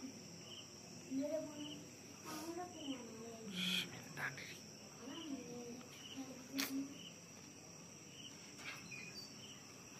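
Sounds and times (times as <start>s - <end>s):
insect chirp: 0.0s - 9.9s
insect drone: 0.0s - 9.9s.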